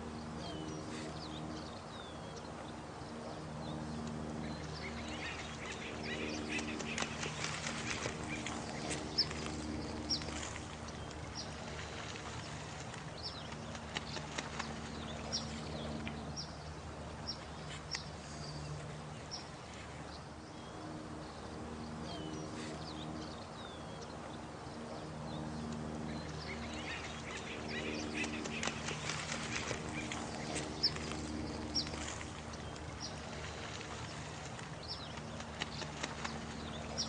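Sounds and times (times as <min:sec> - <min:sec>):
running water: 0:00.0 - 0:21.8, 0:22.4 - 0:37.0.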